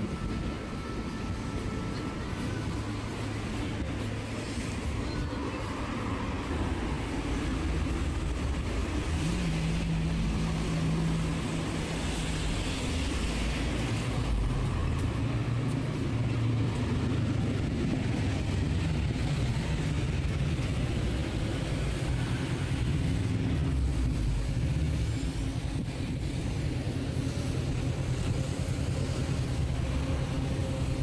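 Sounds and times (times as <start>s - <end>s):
cars passing: 0.0s - 31.0s.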